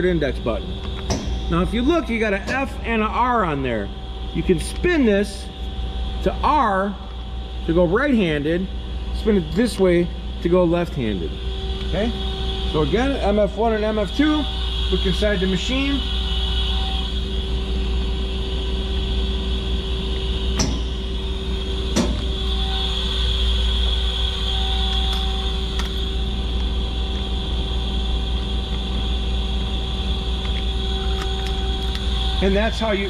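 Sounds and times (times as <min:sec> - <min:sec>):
lathe humming and whining: 0:00.0 - 0:33.0.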